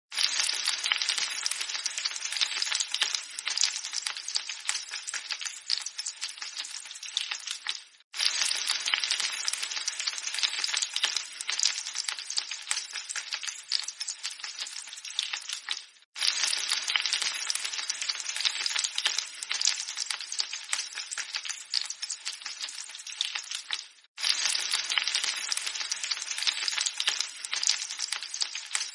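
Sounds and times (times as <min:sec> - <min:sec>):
egg sizzling in hot oil: 0:00.1 - 0:28.9.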